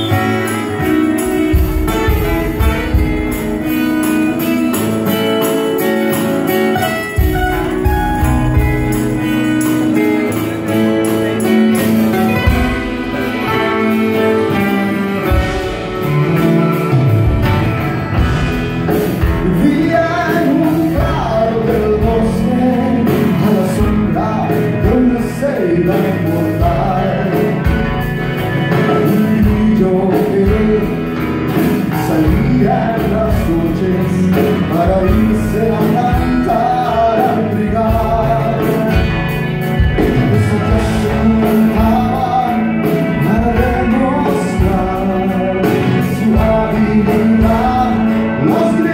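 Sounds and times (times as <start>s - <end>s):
live band music: 0.0s - 48.9s.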